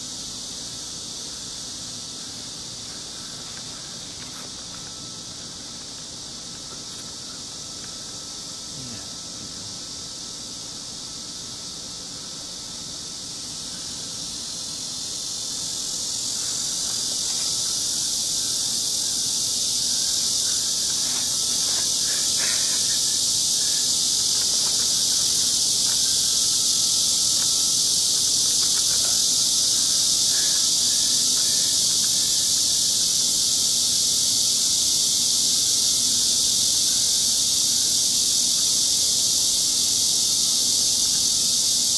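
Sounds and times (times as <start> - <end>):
insect chorus shrilling: 0.0 - 41.9.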